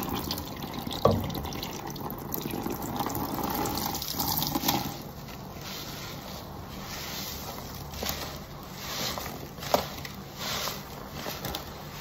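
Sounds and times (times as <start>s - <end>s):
sponge squishing with foam: 0.0s - 12.0s.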